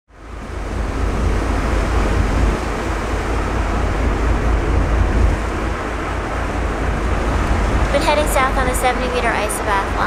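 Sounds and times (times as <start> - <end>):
rushing water noise: 0.1 - 10.0
ship rumbling through sea ice: 0.1 - 10.0.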